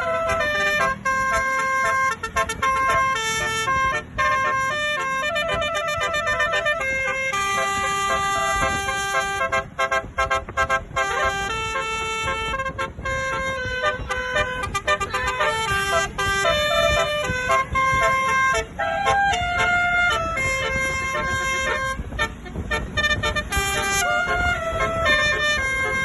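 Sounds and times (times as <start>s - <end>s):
bus horns playing a tune: 0.0s - 26.0s
staccato horn blasts: 0.0s - 26.0s.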